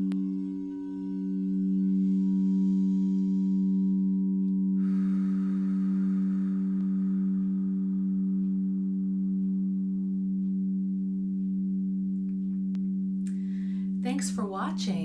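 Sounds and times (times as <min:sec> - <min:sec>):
singing bowl low hum: 0:00.0 - 0:15.0.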